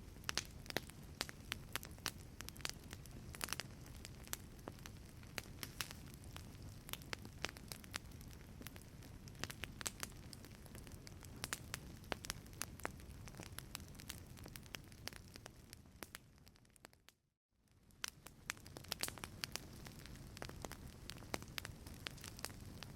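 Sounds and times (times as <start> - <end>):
wood fire crackling: 0.0 - 17.1, 17.7 - 22.9.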